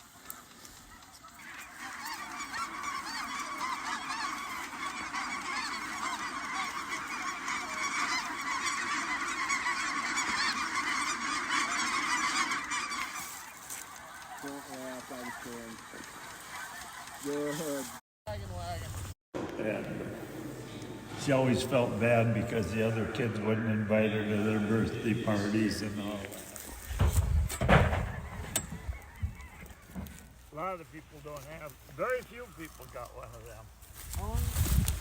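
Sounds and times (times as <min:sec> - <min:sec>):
geese honking: 0:00.0 - 0:19.0, 0:20.2 - 0:35.0.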